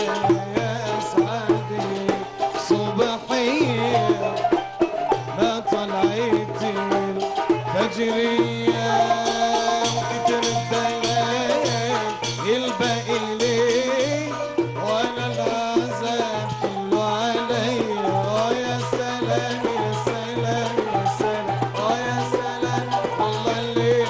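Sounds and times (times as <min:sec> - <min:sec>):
ornamented melody line: 0:00.0 - 0:24.0
tambourine jingles and drum beats: 0:04.0 - 0:24.0.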